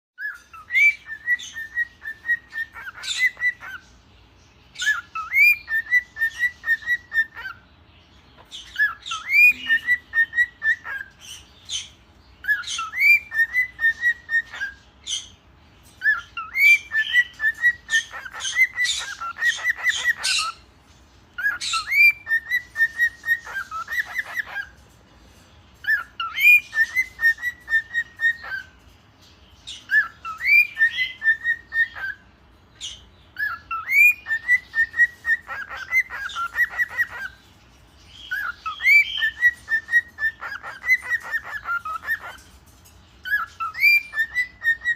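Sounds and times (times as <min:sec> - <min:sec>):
cockatiel whistling: 0:00.2 - 0:03.8, 0:04.7 - 0:07.6, 0:08.6 - 0:15.3, 0:16.0 - 0:20.6, 0:21.4 - 0:24.8, 0:25.8 - 0:28.7, 0:29.7 - 0:32.2, 0:32.8 - 0:37.4, 0:38.3 - 0:42.4, 0:43.2 - 0:44.9.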